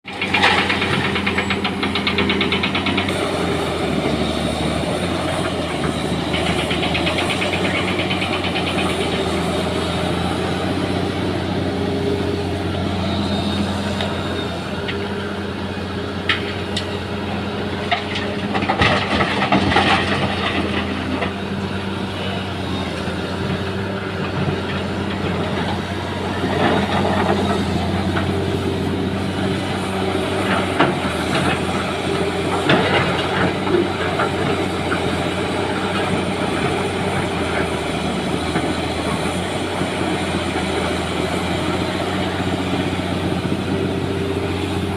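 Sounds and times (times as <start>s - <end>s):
heavy engine running: 0.0s - 44.9s.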